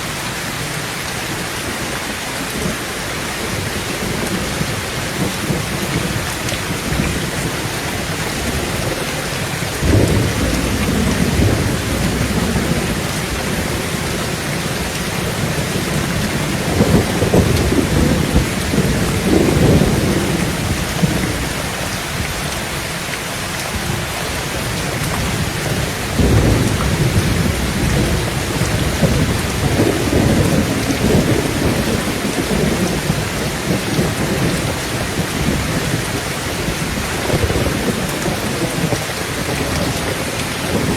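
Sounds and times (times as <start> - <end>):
heavy rain on a tin roof: 0.0 - 40.9
thunder rumbling: 2.5 - 40.9.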